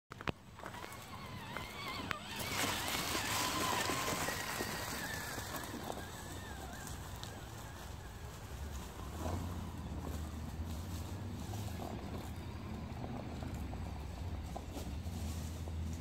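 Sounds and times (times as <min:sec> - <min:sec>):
electric motor whine: 0:00.1 - 0:16.0
tyres crunching dry leaves: 0:00.5 - 0:16.0.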